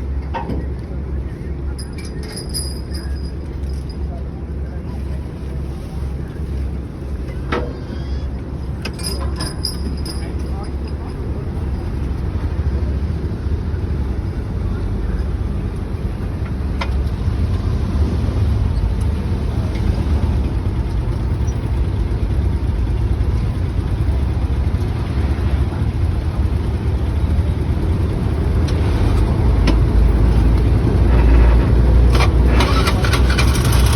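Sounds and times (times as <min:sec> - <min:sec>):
engine rumbling: 0:00.0 - 0:33.9.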